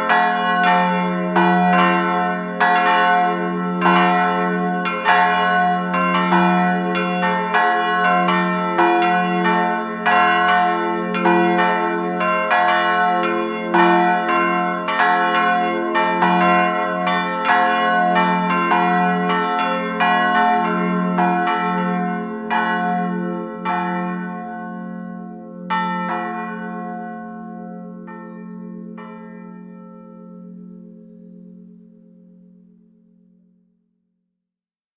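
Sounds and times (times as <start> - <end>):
church bells ringing: 0.0 - 33.6.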